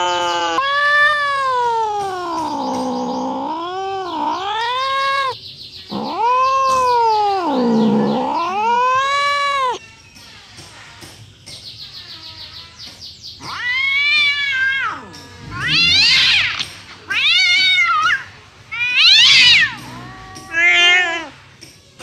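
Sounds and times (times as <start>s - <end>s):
cat yowling angrily: 0.0s - 9.8s, 13.4s - 21.3s.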